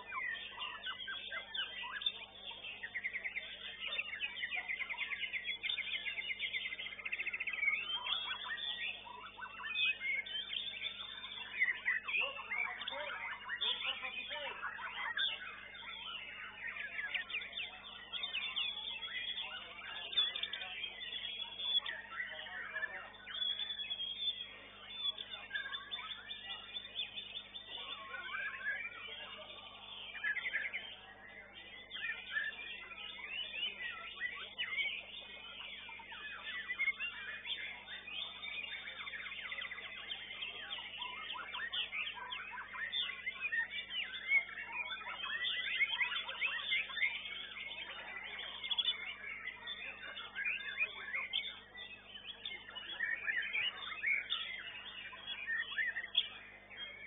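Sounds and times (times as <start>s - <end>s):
other birds singing: 0.0s - 57.0s
songbird singing: 0.0s - 57.0s.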